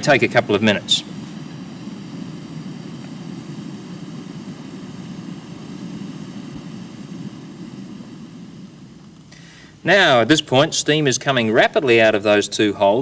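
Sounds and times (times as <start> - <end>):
gas burner flame rumbling: 0.0 - 13.0.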